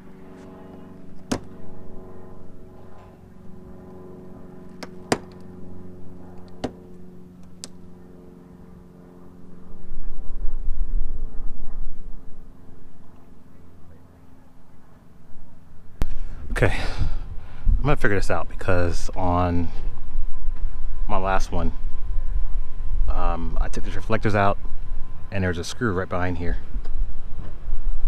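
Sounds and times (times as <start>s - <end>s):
low-pitched hum: 0.0s - 28.0s.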